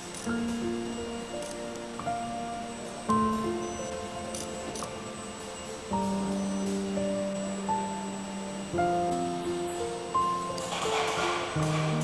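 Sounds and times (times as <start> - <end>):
slow background music: 0.0 - 12.0.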